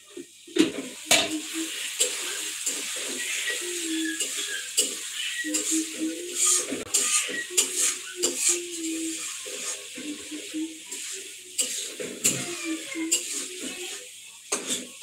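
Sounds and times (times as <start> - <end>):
pots and utensils clinking: 0.0 - 15.0.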